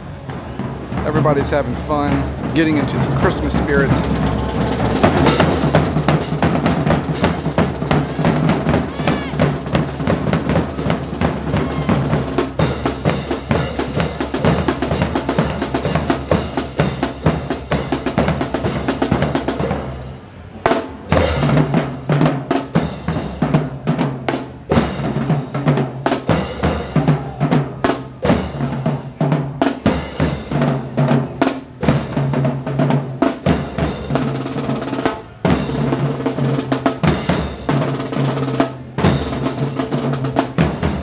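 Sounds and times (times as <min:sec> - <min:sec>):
marching bass drums: 0:00.0 - 0:41.0
snare drums: 0:00.0 - 0:41.0.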